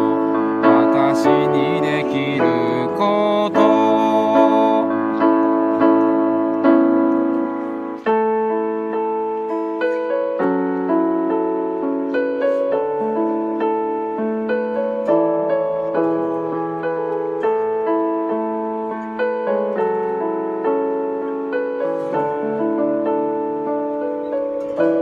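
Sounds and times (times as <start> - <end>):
slow gentle piano: 0.0 - 25.0.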